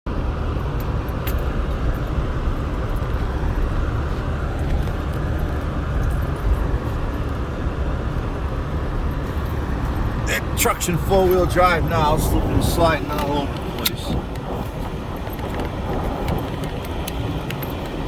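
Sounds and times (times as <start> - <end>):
truck engine and tyre rumble: 0.1 - 18.0.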